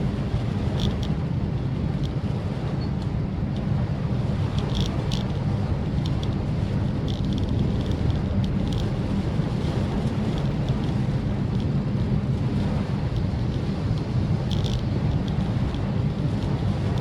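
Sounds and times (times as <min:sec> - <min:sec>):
car road and engine drone: 0:00.0 - 0:17.0
light taps of rain: 0:00.2 - 0:17.0.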